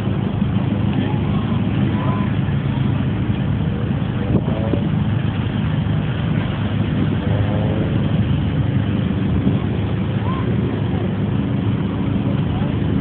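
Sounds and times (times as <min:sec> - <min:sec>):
car engines rumbling: 0:00.0 - 0:13.0
faint voices: 0:00.0 - 0:13.0.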